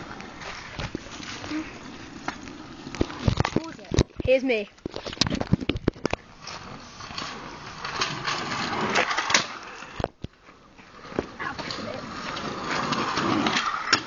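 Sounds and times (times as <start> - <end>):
scooter wheels rolling on asphalt: 0.0 - 14.0.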